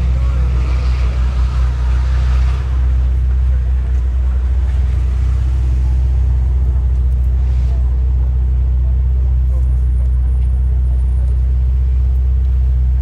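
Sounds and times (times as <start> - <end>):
faint voices: 0.0 - 12.4
car engine idling: 0.0 - 13.0.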